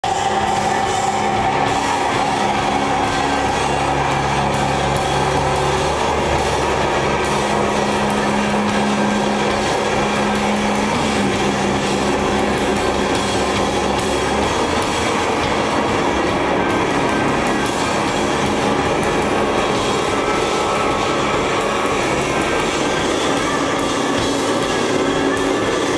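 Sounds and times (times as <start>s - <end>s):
live band playing loud drone: 0.0s - 25.9s.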